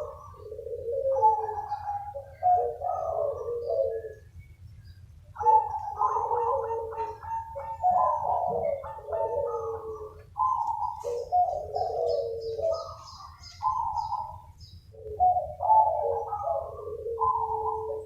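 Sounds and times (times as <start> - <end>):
doves cooing: 0.0 - 18.0.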